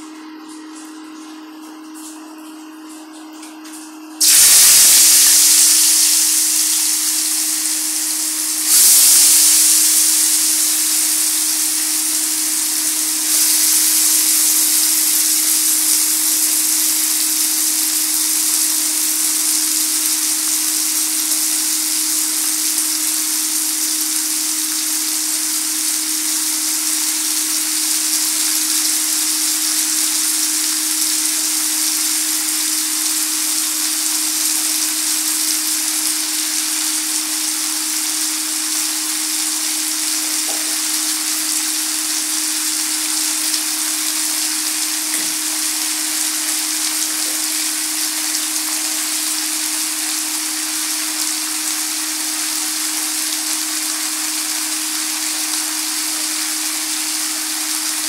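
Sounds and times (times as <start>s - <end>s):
potatoes sizzling in hot oil: 4.2s - 58.0s.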